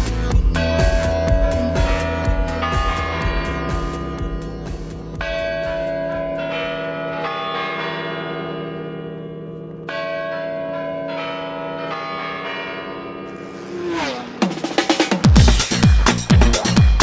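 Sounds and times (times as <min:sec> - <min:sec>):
church bells ringing: 0:00.0 - 0:13.8.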